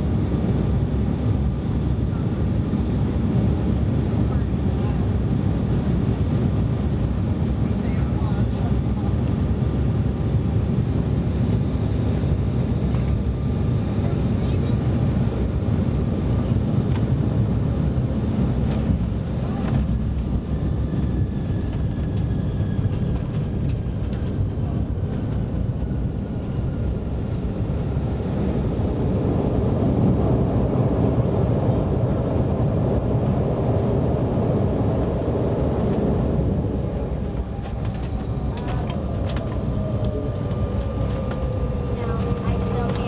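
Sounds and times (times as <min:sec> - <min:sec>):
jet engine whine: 0:00.0 - 0:43.0
wheels rumbling on runway: 0:00.0 - 0:43.0.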